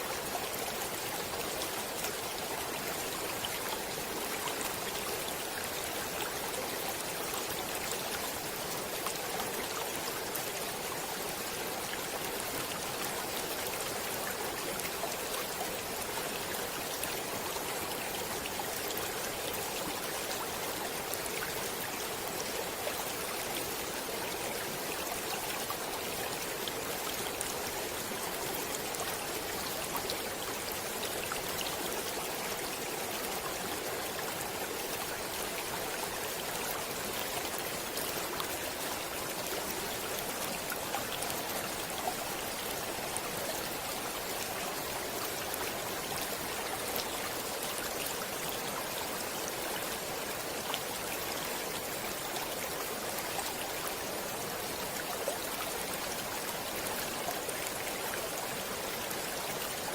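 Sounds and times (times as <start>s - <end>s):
stream of water flowing: 0.0s - 59.9s.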